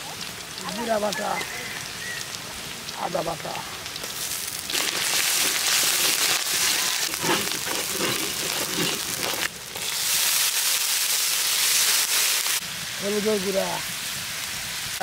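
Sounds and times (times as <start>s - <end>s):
food sizzling in hot oil: 0.0s - 15.0s
water hissing in hot pan: 0.0s - 15.0s.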